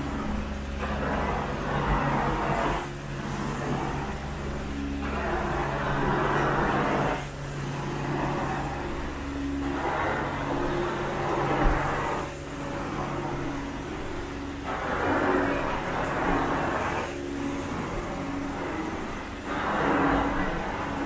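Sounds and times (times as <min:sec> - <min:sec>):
machine motor humming: 0:00.0 - 0:21.0
rushing suction hiss: 0:00.0 - 0:21.0.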